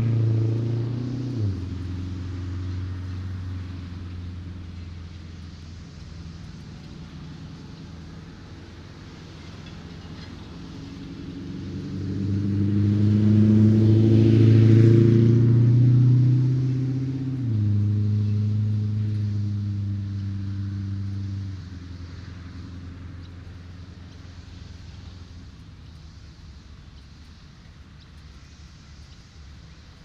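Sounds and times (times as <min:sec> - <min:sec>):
vehicle passing on road: 0:00.0 - 0:30.0.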